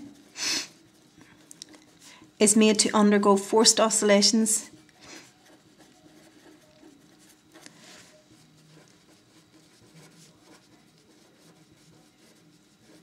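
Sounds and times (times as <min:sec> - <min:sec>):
pen scratching on paper: 0:00.0 - 0:02.2, 0:04.7 - 0:13.0.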